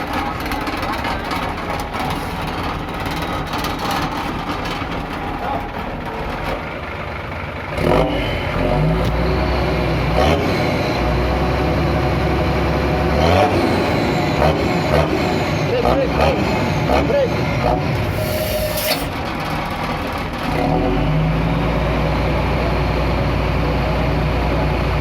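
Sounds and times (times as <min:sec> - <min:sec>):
truck diesel engine revving: 0:00.0 - 0:25.0.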